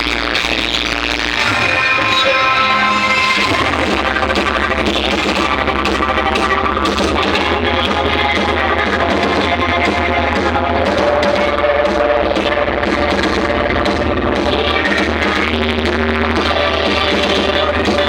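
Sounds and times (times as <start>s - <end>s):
loud music with heavy bass: 0.0s - 18.0s.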